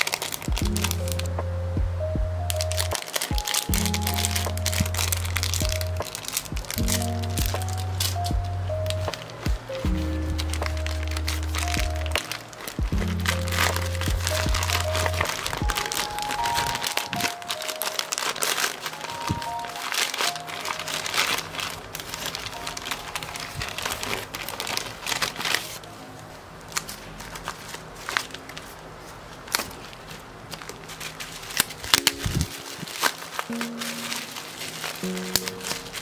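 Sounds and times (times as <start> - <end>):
plastic and bubble wrap crinkling: 0.0 - 1.4, 2.4 - 36.0.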